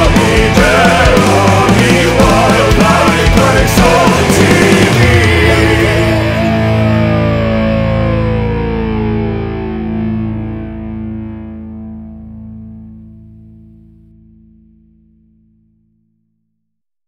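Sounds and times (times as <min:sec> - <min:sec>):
distorted electric guitar chord: 0:00.0 - 0:15.1.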